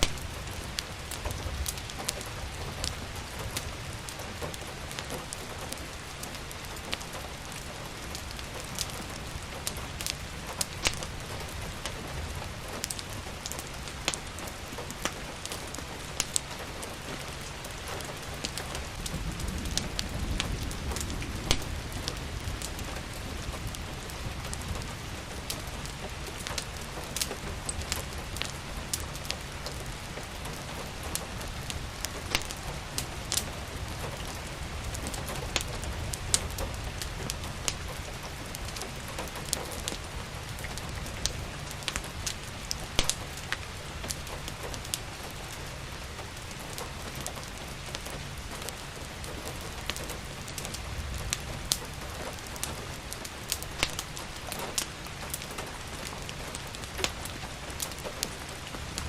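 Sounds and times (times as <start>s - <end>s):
steady rain: 0.0s - 59.0s
wood fire crackling and popping: 0.0s - 59.0s.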